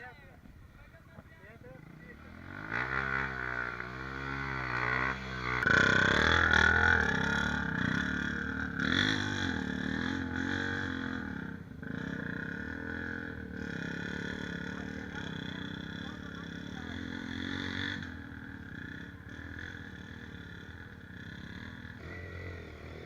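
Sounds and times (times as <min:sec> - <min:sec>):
dirt bike engine revving: 0:01.8 - 0:23.0.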